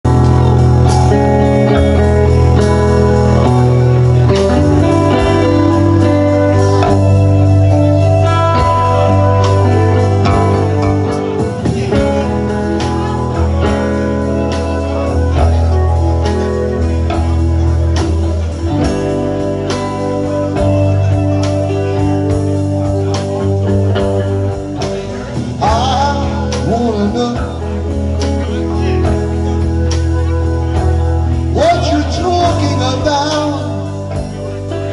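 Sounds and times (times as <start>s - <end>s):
drum kit: 0.0s - 34.9s
electric bass: 0.0s - 34.9s
electric guitar: 0.0s - 34.9s
keyboard: 0.0s - 34.9s.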